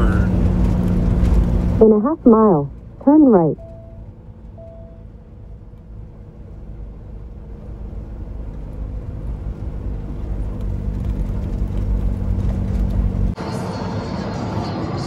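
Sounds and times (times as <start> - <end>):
diesel truck engine drone: 0.0 - 15.0.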